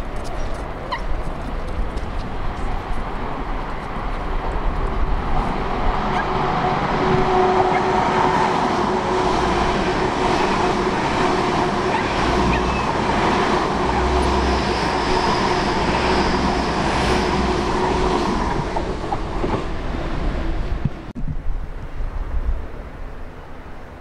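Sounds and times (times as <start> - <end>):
train wheels on rail: 0.0 - 21.1
train engine hum: 0.0 - 24.0.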